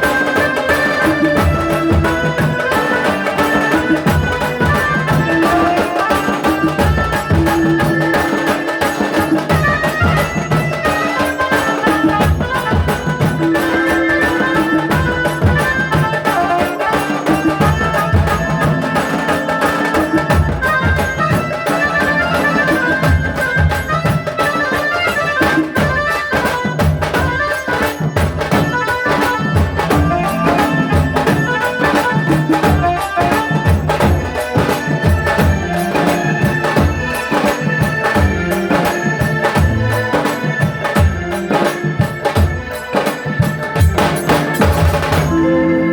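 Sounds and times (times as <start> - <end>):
reedy wind instrument melody: 0.0 - 45.9.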